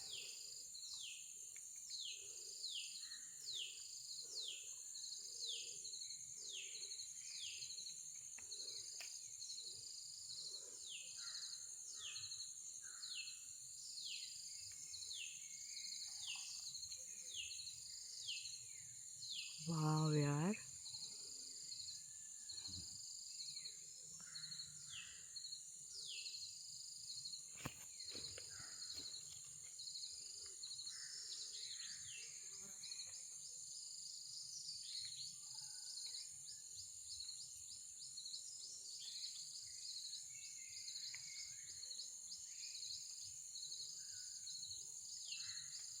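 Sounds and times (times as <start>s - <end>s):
insects chirring: 0.0s - 35.4s, 36.0s - 46.0s
cricket-like chirping: 0.0s - 46.0s.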